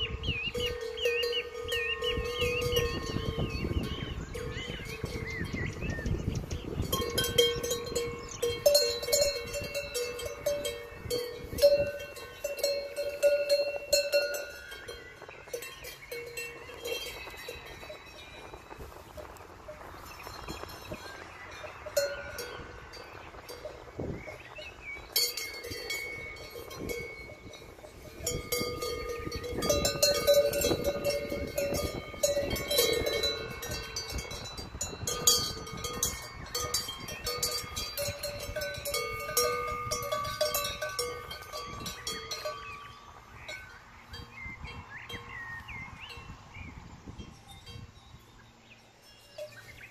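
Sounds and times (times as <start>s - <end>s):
cowbell clanking: 0.0s - 45.4s, 47.2s - 48.0s.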